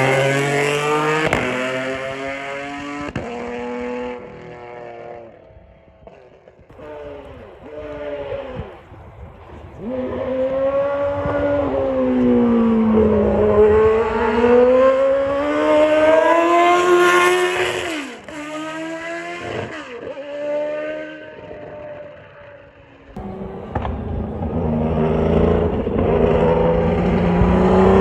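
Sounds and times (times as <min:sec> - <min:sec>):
race car engine at high revs: 0:00.0 - 0:05.4, 0:06.0 - 0:28.0.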